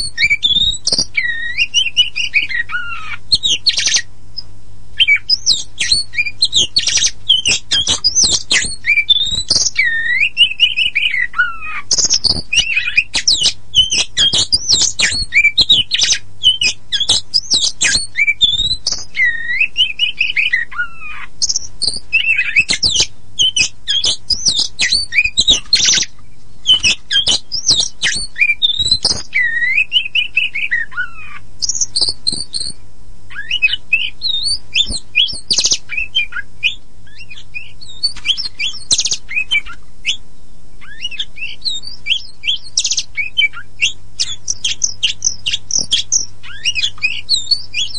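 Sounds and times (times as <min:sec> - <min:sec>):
bird singing whistled song: 0:00.0 - 0:40.2, 0:40.8 - 0:47.9.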